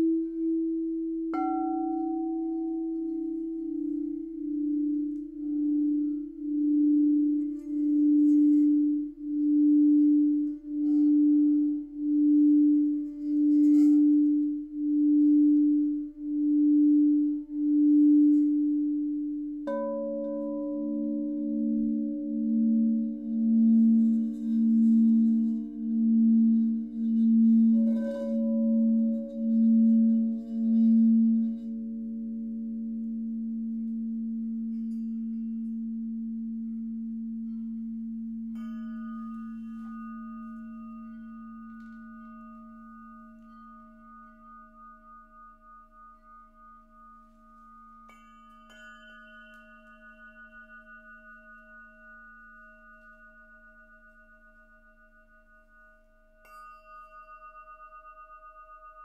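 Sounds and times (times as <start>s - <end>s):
crystal singing bowl hum: 0.0s - 59.0s.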